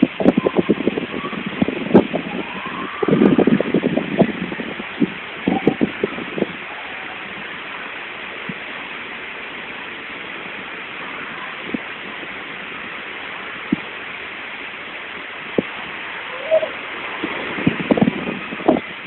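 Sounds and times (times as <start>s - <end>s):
water rushing down slide: 0.0s - 19.0s.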